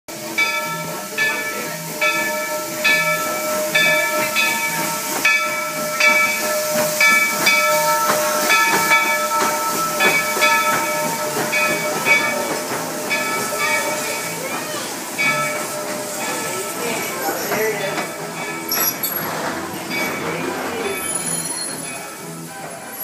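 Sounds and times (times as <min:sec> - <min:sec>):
locomotive bell ringing: 0:00.1 - 0:23.0
steam hissing: 0:00.1 - 0:23.0.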